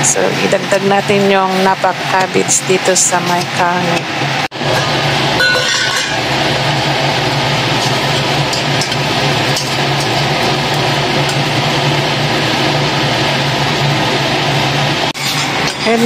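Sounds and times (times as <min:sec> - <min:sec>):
water boiling in saucepan: 0:00.0 - 0:16.0.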